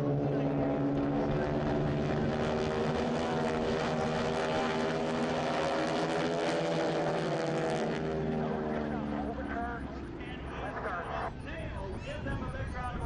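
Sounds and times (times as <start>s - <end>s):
propeller planes droning overhead: 0.0s - 13.0s.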